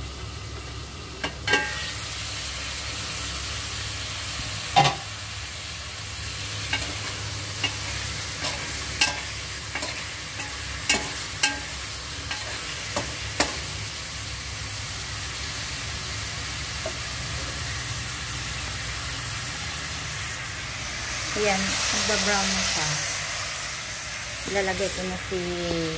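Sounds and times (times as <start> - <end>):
chicken sizzling in a pot: 0.0 - 25.9.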